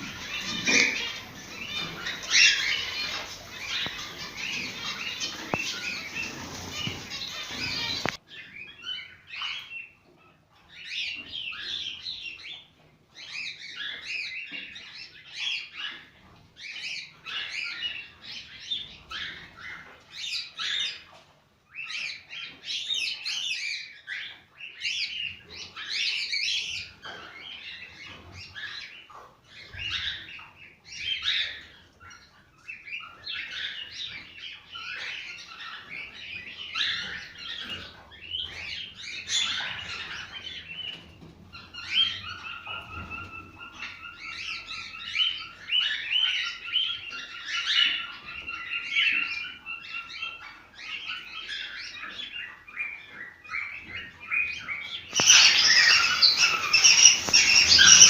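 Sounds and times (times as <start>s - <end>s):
cockatiels chirping and whistling: 0.0s - 9.8s, 10.7s - 21.0s, 21.7s - 58.0s.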